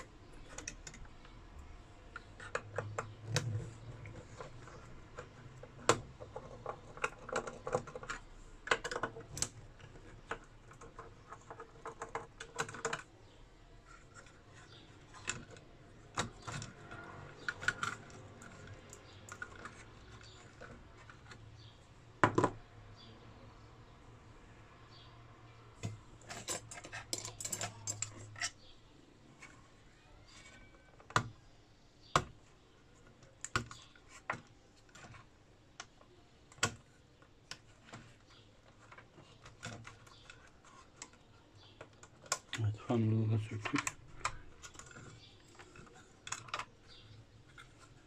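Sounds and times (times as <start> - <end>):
small hard parts clicking: 0.0 - 22.6, 25.8 - 28.7, 32.1 - 48.0.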